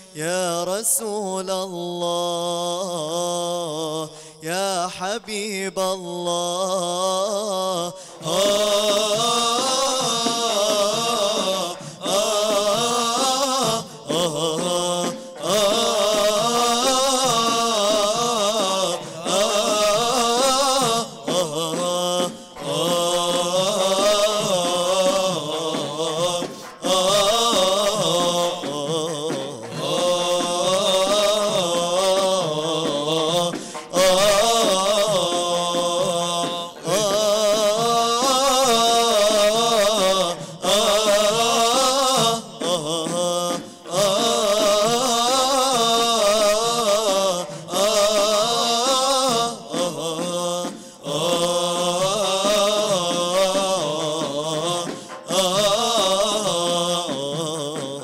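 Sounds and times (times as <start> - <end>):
male vocal group singing: 0.0 - 58.0.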